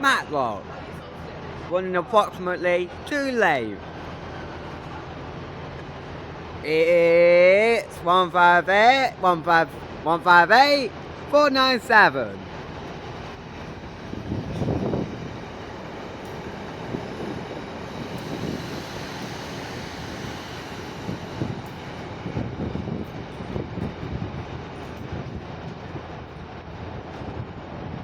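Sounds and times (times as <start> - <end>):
diesel train rumbling: 0.0 - 28.0.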